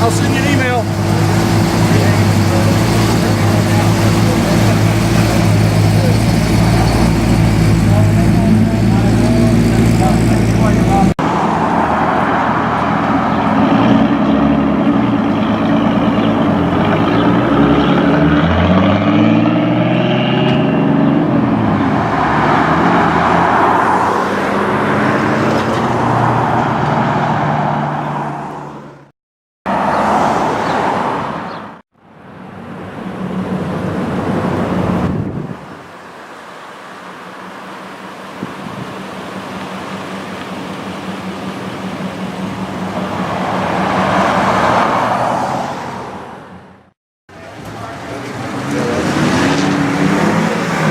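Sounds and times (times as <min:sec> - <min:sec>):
sports car engines revving: 0:00.0 - 0:29.1, 0:36.8 - 0:50.9.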